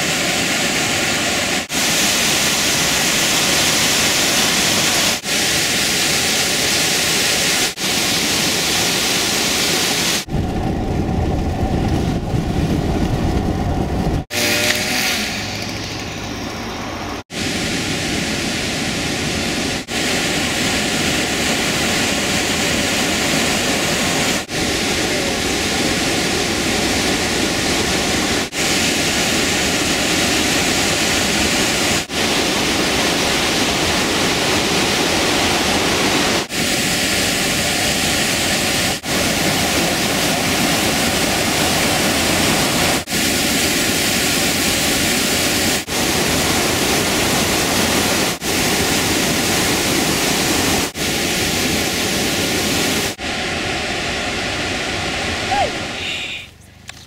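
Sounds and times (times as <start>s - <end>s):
waterfall rushing: 0.0s - 10.3s, 15.0s - 56.2s.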